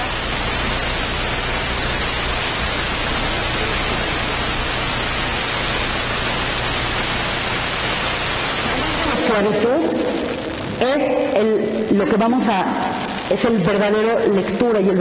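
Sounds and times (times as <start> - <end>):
low electrical hum: 0.0 - 15.0
static hiss: 0.0 - 15.0.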